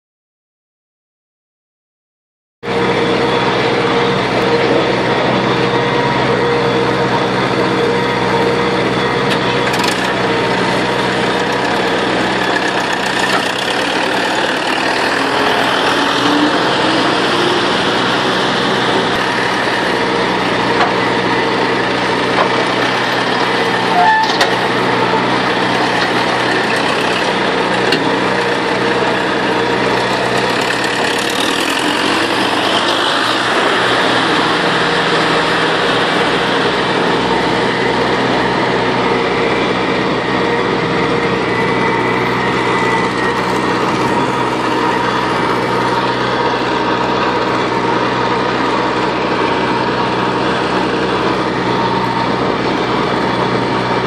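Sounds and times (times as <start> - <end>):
tractor engine running: 2.6 - 54.0
auger churning hay: 2.7 - 54.0.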